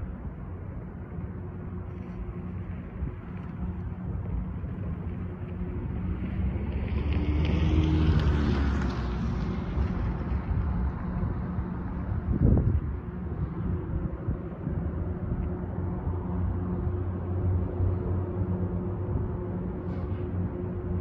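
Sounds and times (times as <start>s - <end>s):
diesel engines droning: 0.0s - 21.0s.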